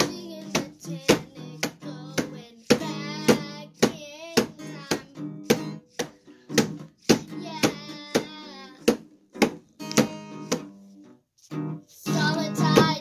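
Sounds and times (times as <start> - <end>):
child singing wordlessly: 0.0 - 9.5, 11.9 - 13.0
acoustic guitar strumming: 0.0 - 13.0.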